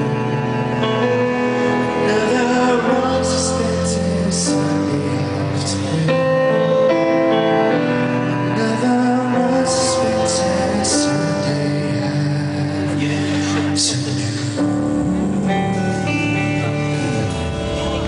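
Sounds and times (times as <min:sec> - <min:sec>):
instrumental backing: 0:00.0 - 0:18.0
man singing into microphone: 0:00.0 - 0:18.0.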